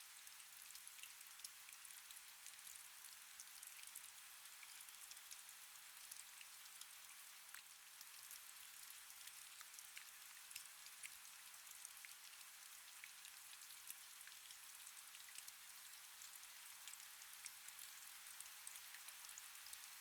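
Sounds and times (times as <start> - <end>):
faint rain hiss: 0.0 - 20.0.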